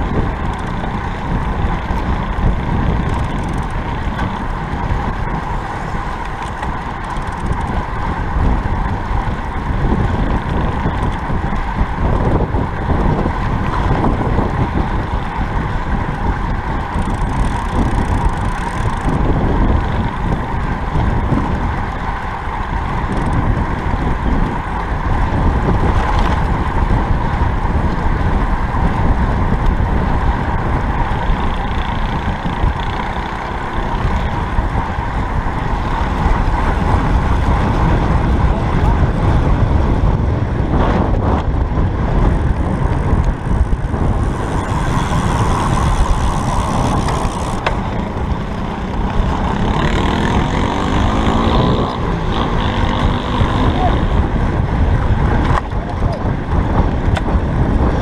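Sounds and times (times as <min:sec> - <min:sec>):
mid-pitched hum: 0:00.0 - 0:58.0
wind rushing over microphone: 0:00.0 - 0:58.0.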